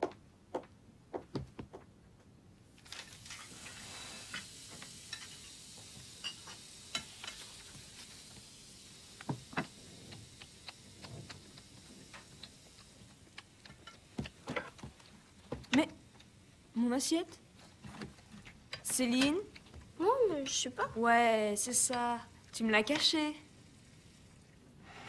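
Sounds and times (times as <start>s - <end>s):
faint steady hiss: 2.0s - 25.0s.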